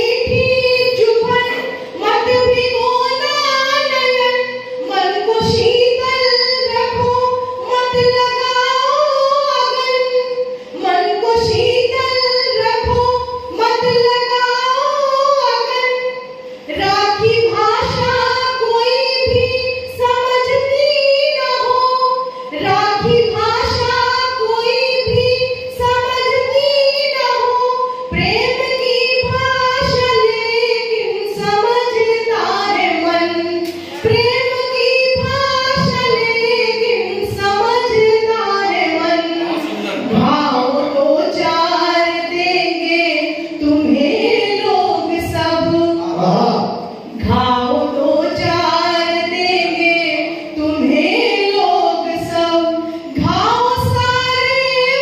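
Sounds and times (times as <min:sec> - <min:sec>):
woman singing into microphone: 0:00.0 - 0:55.0.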